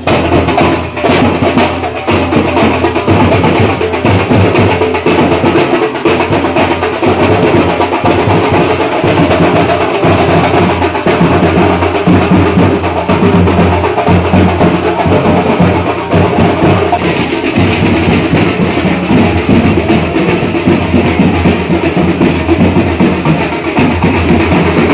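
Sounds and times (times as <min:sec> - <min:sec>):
percussion ensemble drumming: 0:00.0 - 0:24.9.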